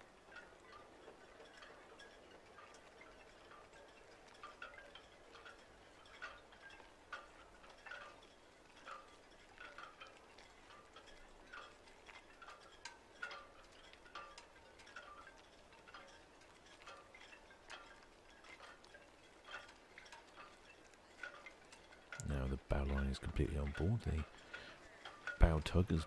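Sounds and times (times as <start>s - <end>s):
faint light ticks: 0.0s - 26.0s.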